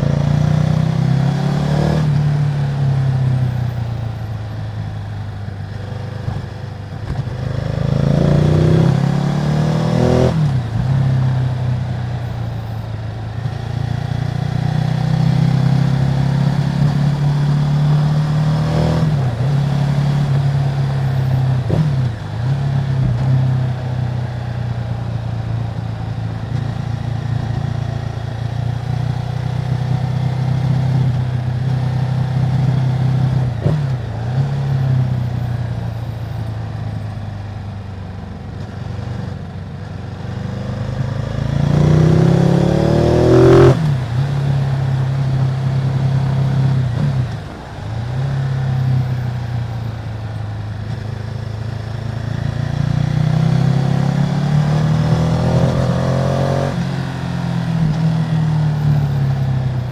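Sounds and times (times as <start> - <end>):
motorcycle engine revving: 0.0 - 36.0, 38.6 - 59.9.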